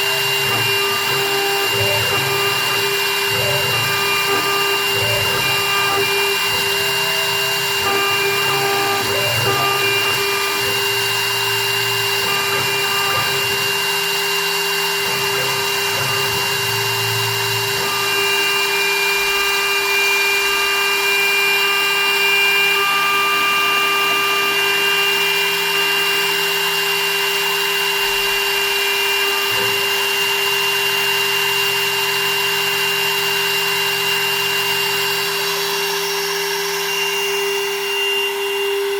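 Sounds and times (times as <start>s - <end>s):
milling machine spindle whine: 0.0s - 38.9s.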